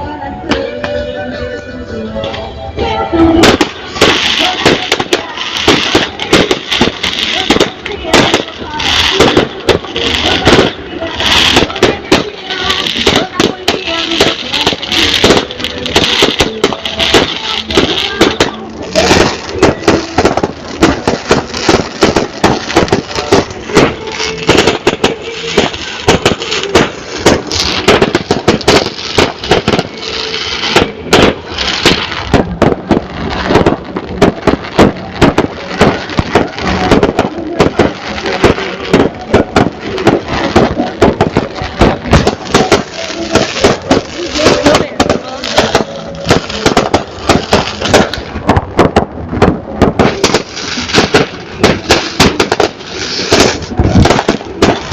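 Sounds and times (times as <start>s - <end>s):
bonfire crackling and popping: 3.4s - 54.9s.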